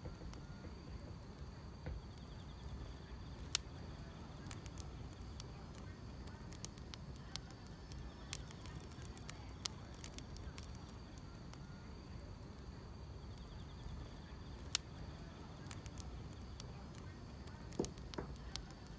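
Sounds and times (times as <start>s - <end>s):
wood fire crackling and popping: 0.0s - 18.9s
grass insects chirring: 1.9s - 18.9s.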